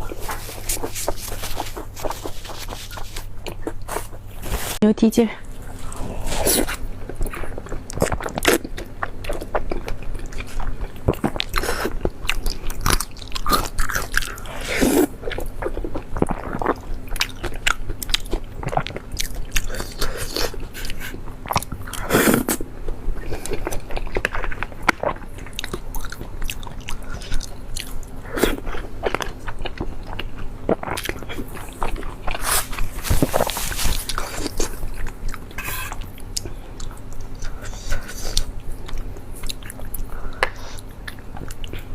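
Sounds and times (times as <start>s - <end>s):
person chewing crunchy food: 0.0s - 4.8s, 5.6s - 41.9s.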